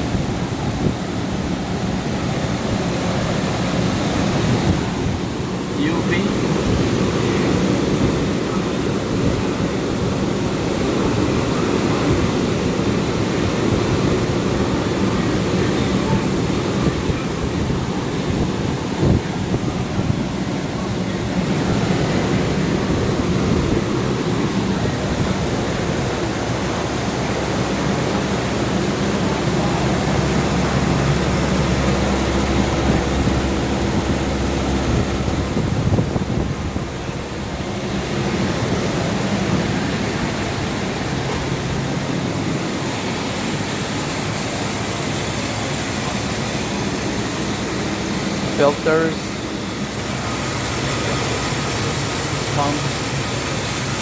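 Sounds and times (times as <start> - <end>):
machinery hum: 0.0 - 54.0.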